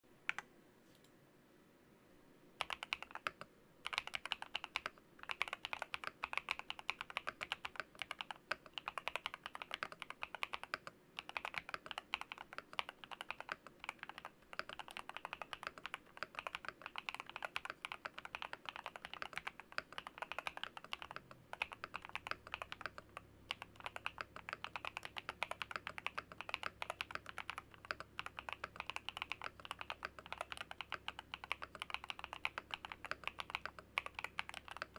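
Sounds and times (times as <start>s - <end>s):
fast typing key clacks: 2.6s - 34.9s.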